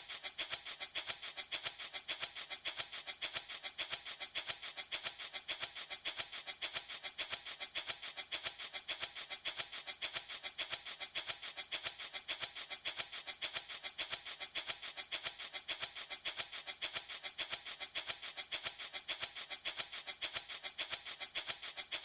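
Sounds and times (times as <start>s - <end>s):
baby rattle shaking: 0.0s - 22.0s.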